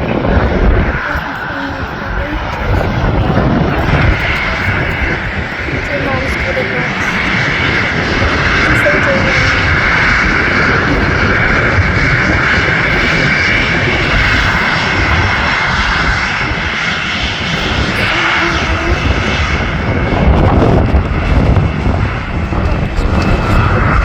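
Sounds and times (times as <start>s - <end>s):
jet engines whining: 0.0s - 24.0s
wind buffeting microphone: 0.0s - 24.0s.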